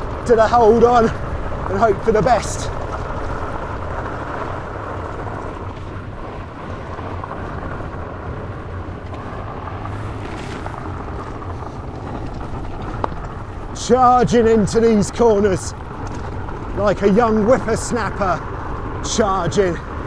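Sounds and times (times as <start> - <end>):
bike tyres rolling on gravel: 0.0 - 20.0.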